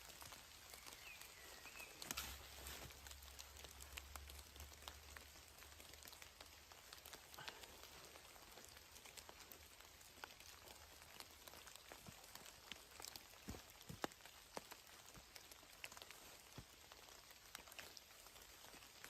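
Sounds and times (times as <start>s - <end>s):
soft steady hiss: 0.0s - 19.0s.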